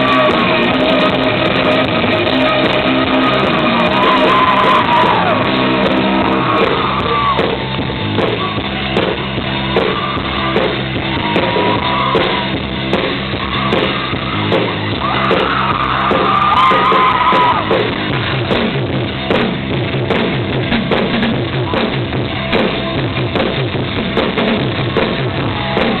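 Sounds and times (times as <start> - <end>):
drum kit hitting: 0.0 - 26.0
rock band playing: 0.0 - 26.0.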